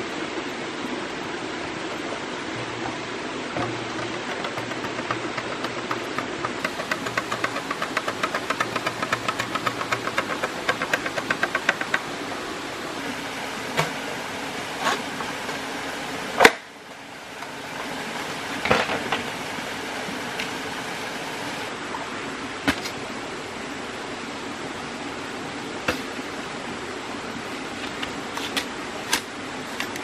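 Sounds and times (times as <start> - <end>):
stream and waterfall rushing: 0.0 - 5.6, 6.2 - 29.8.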